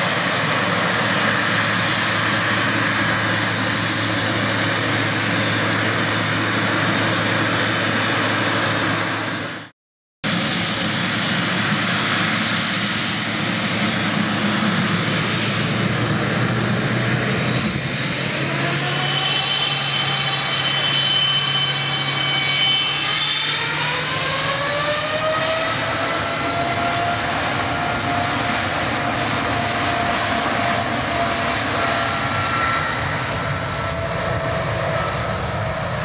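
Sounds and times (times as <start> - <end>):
jet engine whine rising: 0.0 - 36.0
jet engines rushing: 0.0 - 36.0.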